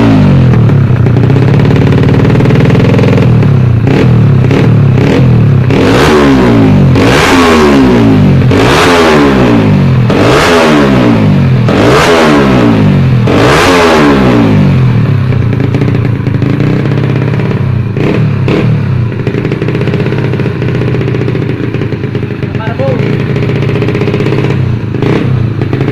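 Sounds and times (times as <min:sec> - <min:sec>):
motorcycle engine revving and idling: 0:00.0 - 0:25.9.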